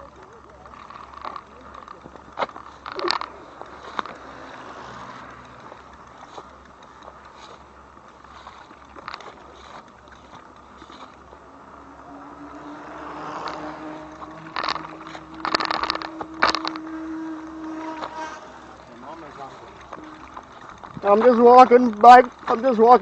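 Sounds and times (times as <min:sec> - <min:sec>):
wind and trail noise: 0:00.0 - 0:23.0.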